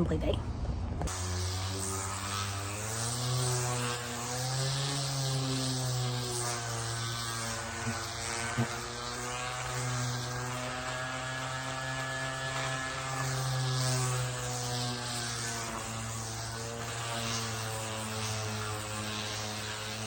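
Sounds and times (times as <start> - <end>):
electric sander running: 1.0 - 20.0.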